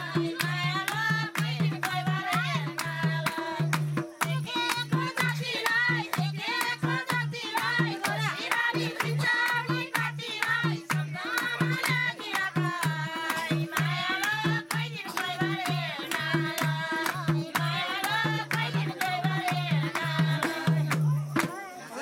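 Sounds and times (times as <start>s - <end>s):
hand drums beating: 0.0s - 21.6s
folk singing voices: 0.0s - 22.0s
hand claps: 0.1s - 21.6s.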